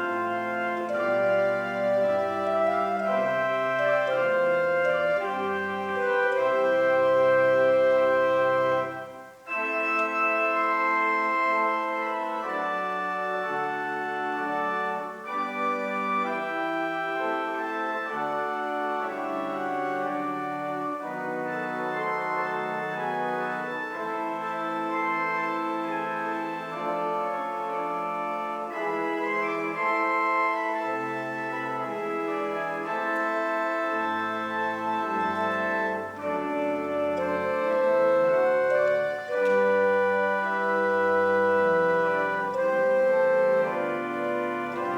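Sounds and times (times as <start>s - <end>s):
church organ chords: 0.0s - 44.9s.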